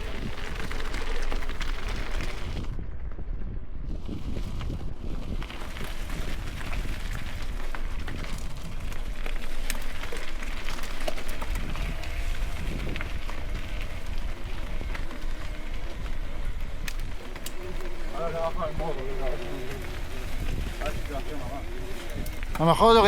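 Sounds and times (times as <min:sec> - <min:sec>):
bike clicks and rattles: 0:00.0 - 0:23.0
tyre and wind noise: 0:00.0 - 0:23.0.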